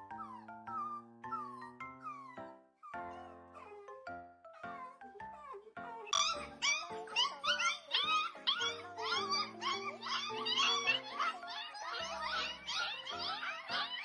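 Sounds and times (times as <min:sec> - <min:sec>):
background music: 0:00.0 - 0:14.0
puppies crying and whimpering: 0:00.0 - 0:14.0.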